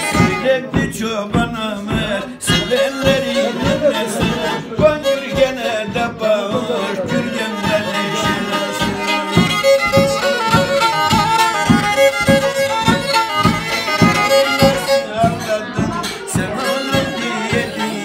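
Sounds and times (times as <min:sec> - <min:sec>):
bowed fiddle playing folk tune: 0:00.0 - 0:18.0
steady beat of thumps: 0:00.0 - 0:18.0.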